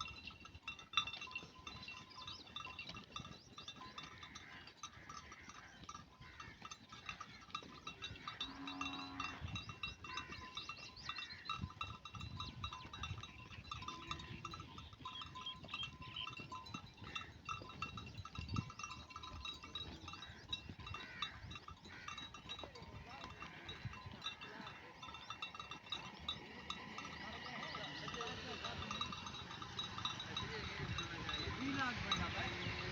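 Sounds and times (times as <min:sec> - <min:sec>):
sheep bells jingling: 0:00.0 - 0:32.9.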